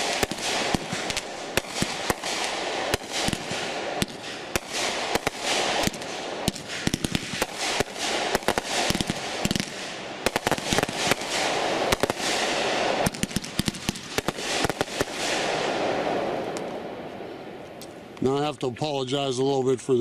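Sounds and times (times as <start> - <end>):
firework crackling hiss: 0.0 - 16.7
firework bangs: 0.0 - 18.1.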